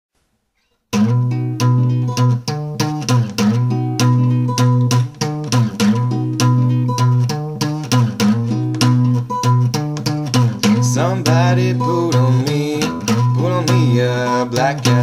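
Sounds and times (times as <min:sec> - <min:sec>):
blues guitar riff: 0:00.9 - 0:15.0.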